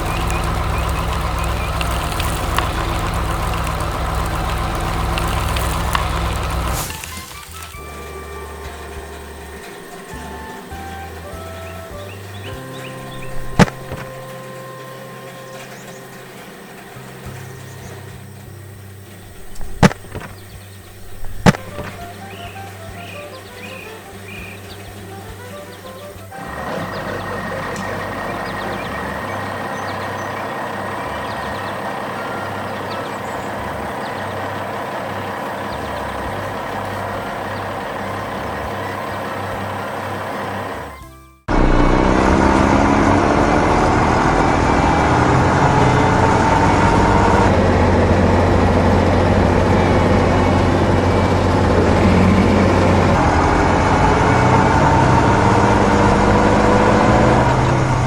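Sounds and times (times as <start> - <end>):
diesel machinery running: 0.0 - 58.0
engine revving under load: 0.0 - 58.0.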